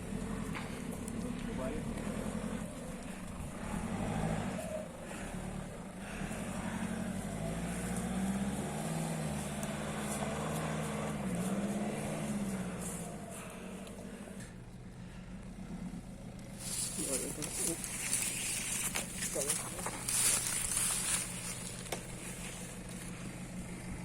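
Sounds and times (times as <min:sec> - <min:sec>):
car engine under load: 0:00.0 - 0:24.0.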